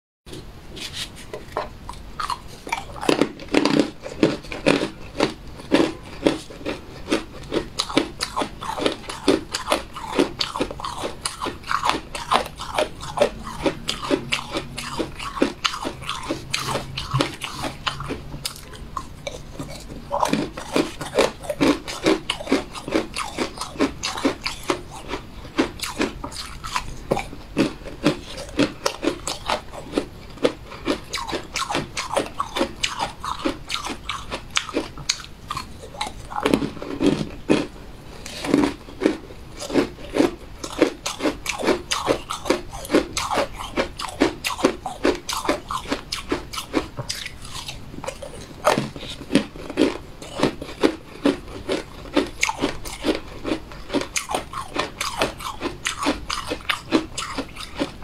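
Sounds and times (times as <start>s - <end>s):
cookies crunching when chewed: 1.5s - 58.0s.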